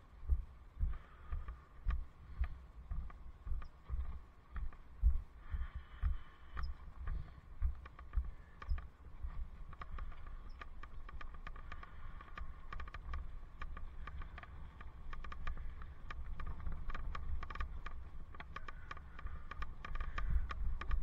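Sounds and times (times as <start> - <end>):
low rumble of wind and road: 0.0 - 21.0
light irregular clicks: 0.2 - 21.0.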